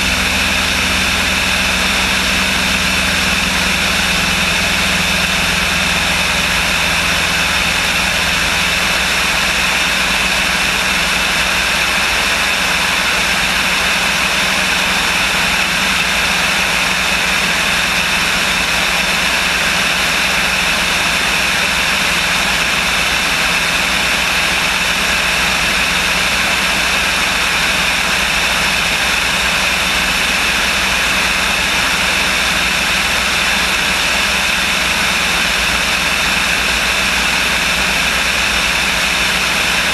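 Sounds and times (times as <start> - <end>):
light aircraft engine and propeller drone: 0.0 - 39.9.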